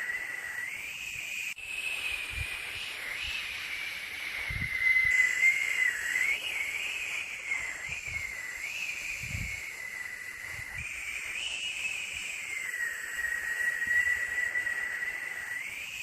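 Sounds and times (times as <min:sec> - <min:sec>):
wavering whistling tone: 0:00.0 - 0:16.0
white noise hiss: 0:00.0 - 0:16.0.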